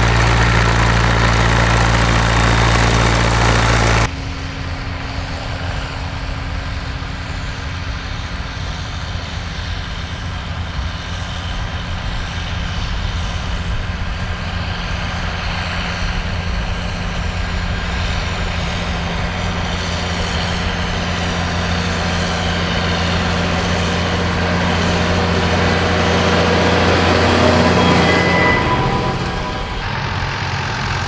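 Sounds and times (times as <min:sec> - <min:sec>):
tractor diesel engine drone: 0:00.0 - 0:31.0.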